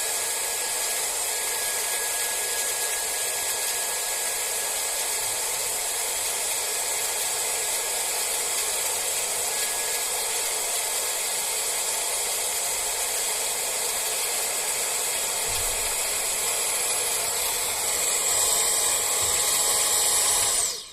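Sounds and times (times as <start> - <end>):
hair dryer blowing: 0.0 - 20.9.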